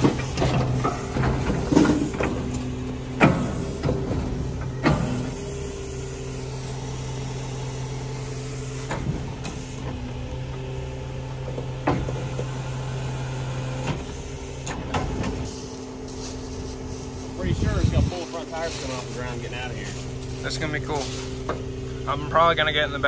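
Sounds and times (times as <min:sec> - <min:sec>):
motor running steadily: 0:00.0 - 0:23.0.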